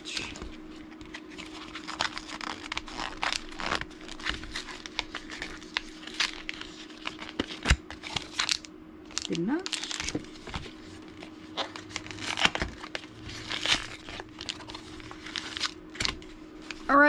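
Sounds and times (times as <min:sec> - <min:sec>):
plastic packaging crinkling and tearing: 0:00.1 - 0:16.9.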